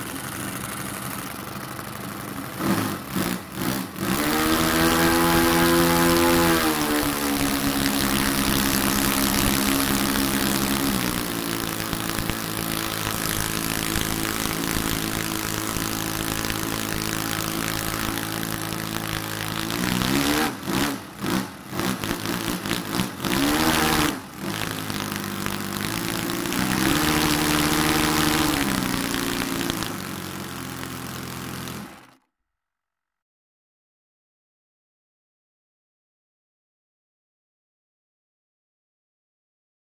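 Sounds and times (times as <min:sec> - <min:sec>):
model plane engines running: 0:00.0 - 0:32.2.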